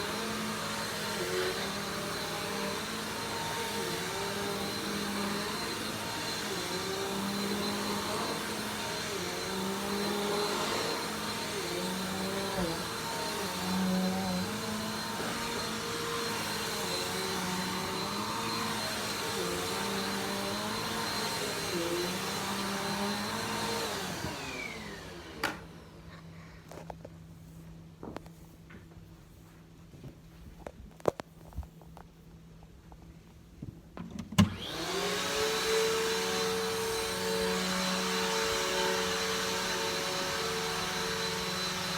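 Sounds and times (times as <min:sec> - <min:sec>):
vacuum cleaner running: 0:00.0 - 0:27.6, 0:34.4 - 0:41.9.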